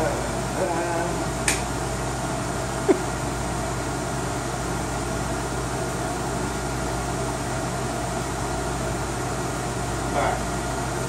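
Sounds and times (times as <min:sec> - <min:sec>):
computer cooling fans whirring: 0:00.0 - 0:11.0.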